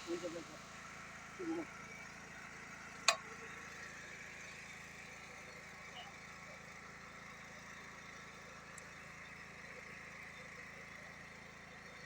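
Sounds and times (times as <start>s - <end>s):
faint engine hum: 0.0s - 12.0s.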